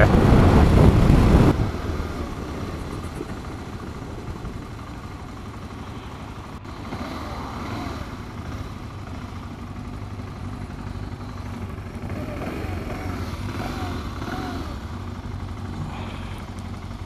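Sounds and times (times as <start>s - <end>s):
motorcycle engine hum: 0.0s - 17.0s
wind and road noise: 0.0s - 17.0s.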